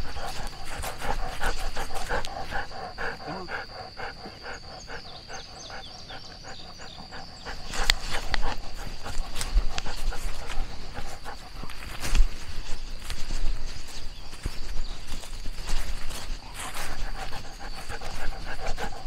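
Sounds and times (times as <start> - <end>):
dog panting: 0.0 - 19.0.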